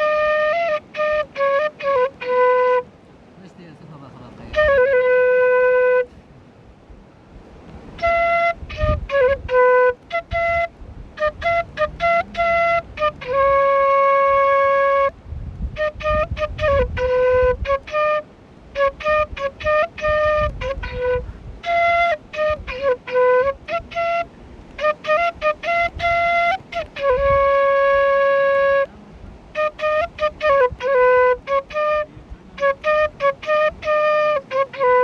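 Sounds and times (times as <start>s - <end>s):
solo flute melody: 0.0s - 3.3s, 4.4s - 6.2s, 7.9s - 35.0s.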